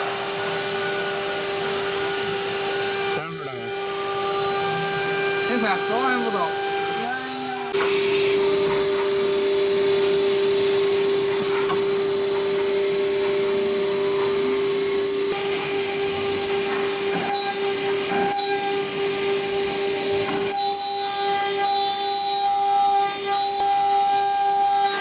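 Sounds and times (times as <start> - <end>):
router spindle whining: 0.0 - 25.0.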